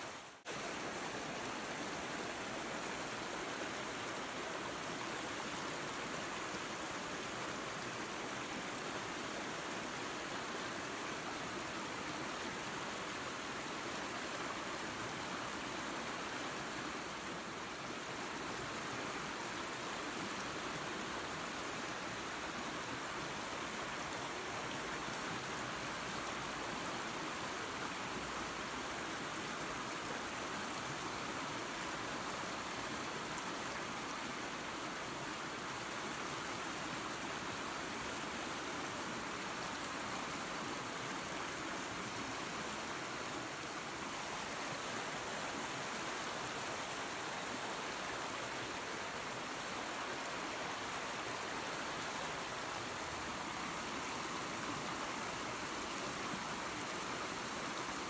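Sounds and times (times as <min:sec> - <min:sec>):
waterfall water rushing: 0:00.0 - 0:58.0.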